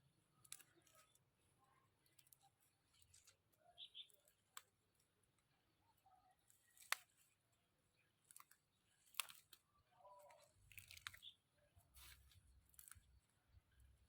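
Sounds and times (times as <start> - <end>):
faint crisp snaps and crunches: 0.0 - 14.0.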